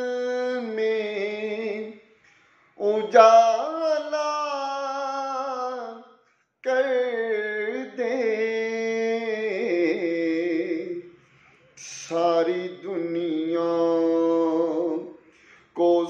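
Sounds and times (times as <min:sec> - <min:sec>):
man singing unaccompanied: 0:00.0 - 0:02.0, 0:02.8 - 0:11.1, 0:11.8 - 0:15.2, 0:15.8 - 0:16.0.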